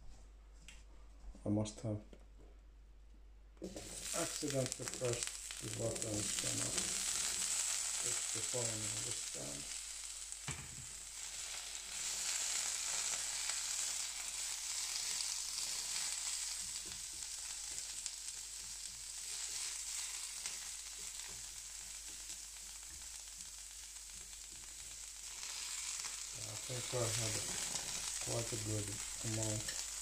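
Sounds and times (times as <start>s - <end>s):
food sizzling on a griddle: 3.6s - 30.0s.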